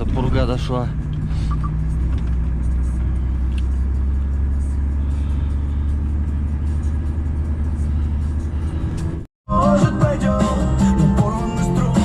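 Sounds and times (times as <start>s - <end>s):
road noise: 0.0s - 12.0s
truck engine droning: 0.0s - 12.0s.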